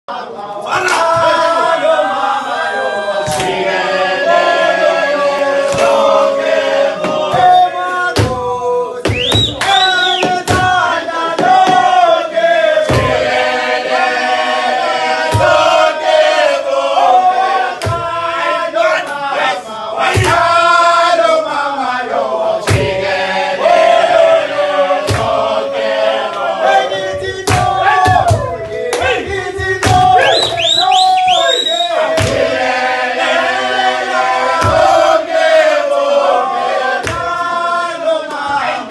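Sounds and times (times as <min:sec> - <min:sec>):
men singing a chant: 0:00.1 - 0:38.9.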